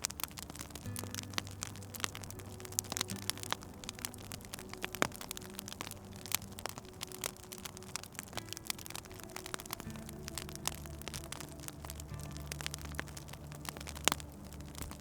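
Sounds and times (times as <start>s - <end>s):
soft background music: 0.0s - 15.0s
wood fire crackling and popping: 0.0s - 15.0s.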